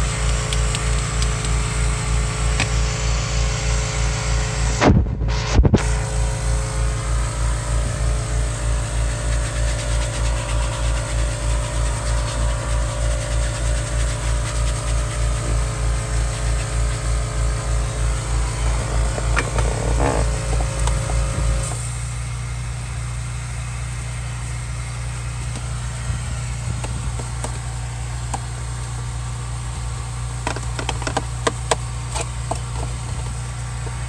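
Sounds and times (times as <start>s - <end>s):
motor humming with low throb: 0.0s - 34.0s.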